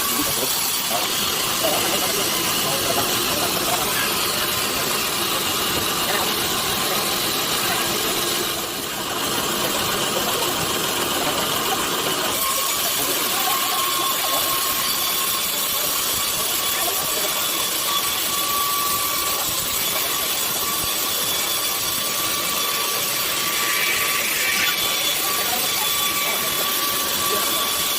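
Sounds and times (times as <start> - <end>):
sawmill machinery hissing: 0.0 - 27.9.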